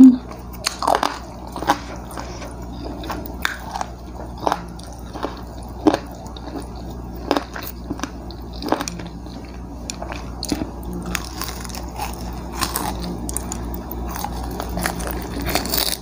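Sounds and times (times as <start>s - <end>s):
person chewing crunchy fried chicken: 0.0s - 16.0s.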